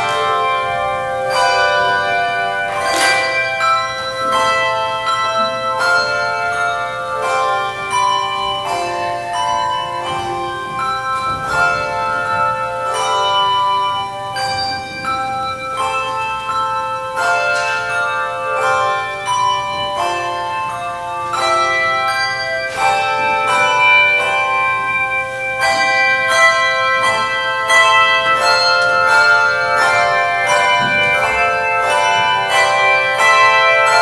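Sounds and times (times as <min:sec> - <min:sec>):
handbells ringing in chords: 0:00.0 - 0:34.0.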